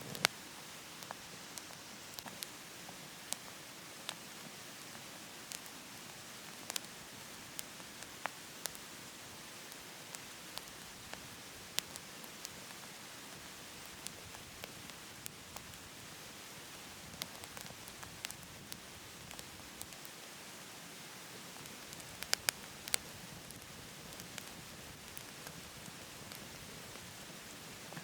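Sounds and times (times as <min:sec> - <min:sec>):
wood fire crackling and popping: 0:00.0 - 0:20.6, 0:21.3 - 0:28.0
fire hiss: 0:00.0 - 0:28.0.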